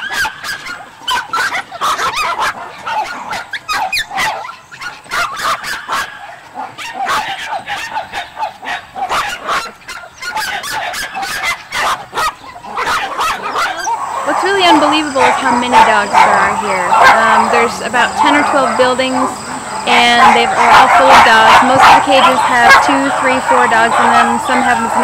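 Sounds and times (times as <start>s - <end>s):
many dogs barking and yipping: 0.0s - 25.0s.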